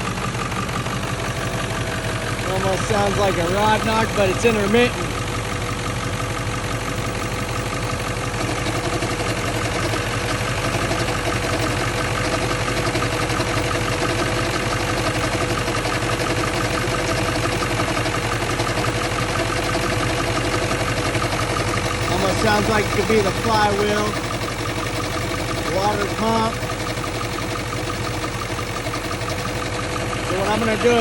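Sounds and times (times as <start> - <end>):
diesel engine idling with rattle: 0.0 - 31.0
steady whine: 0.0 - 31.0.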